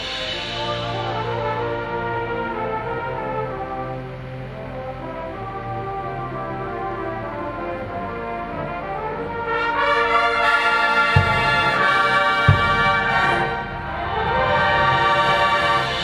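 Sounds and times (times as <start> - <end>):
brass horns playing sustained chords: 0.0 - 16.0.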